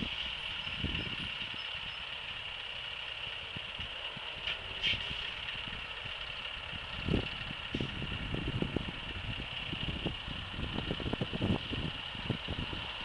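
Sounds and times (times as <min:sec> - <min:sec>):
truck engine at low revs: 0:00.0 - 0:13.0.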